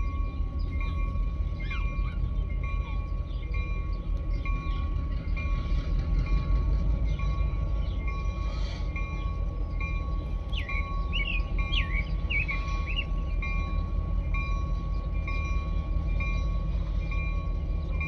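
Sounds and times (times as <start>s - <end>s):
bird singing: 0.0s - 5.8s, 6.9s - 18.0s
slow train rumbling: 0.0s - 18.0s.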